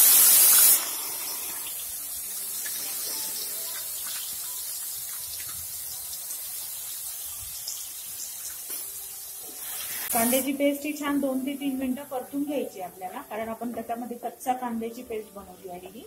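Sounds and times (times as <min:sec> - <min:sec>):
onion paste sizzling in oil: 0:00.0 - 0:16.0.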